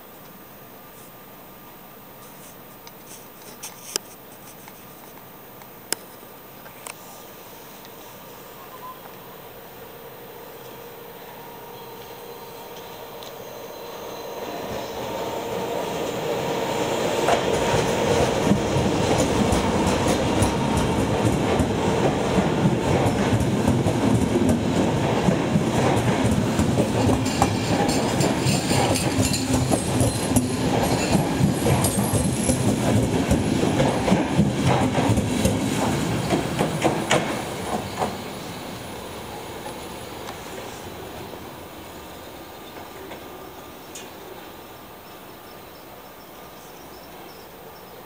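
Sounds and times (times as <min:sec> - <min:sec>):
passenger train passing: 0:07.1 - 0:48.0.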